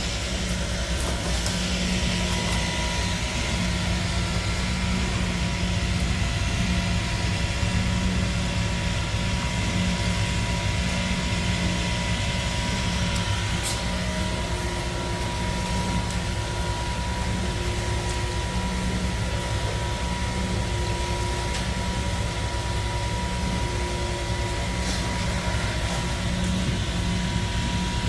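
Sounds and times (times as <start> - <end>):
pump truck engine hum: 0.0 - 28.0
thin steady whine: 0.0 - 28.0.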